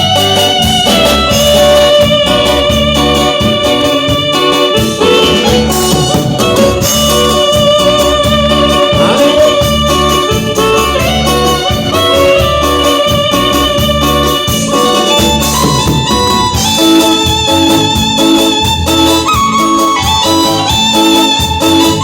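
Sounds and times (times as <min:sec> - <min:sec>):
live band dance music: 0:00.0 - 0:22.0.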